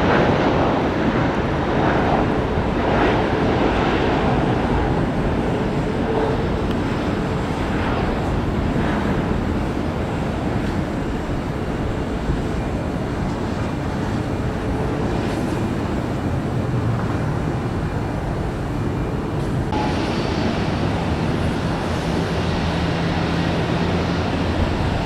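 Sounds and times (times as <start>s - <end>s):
jet engine rumble: 0.0s - 25.0s.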